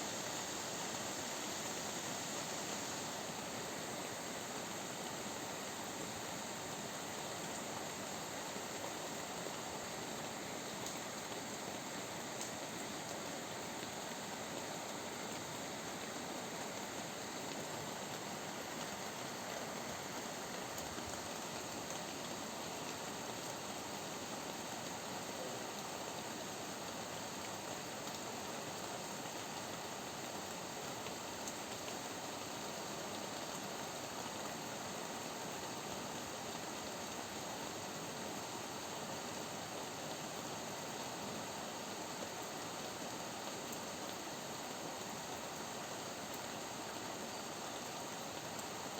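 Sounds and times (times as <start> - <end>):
rain falling steadily: 0.0 - 48.9.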